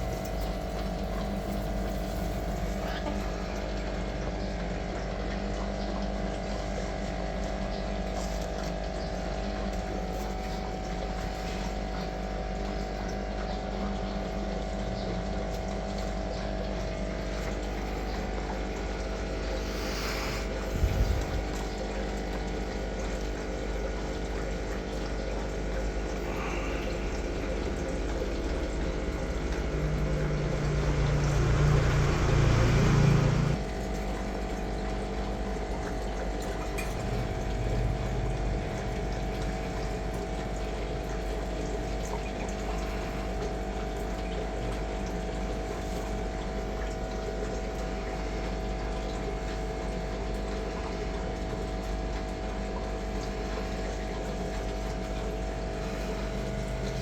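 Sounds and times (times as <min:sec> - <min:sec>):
machine hum: 0:00.0 - 0:51.0, 0:52.1 - 0:57.0.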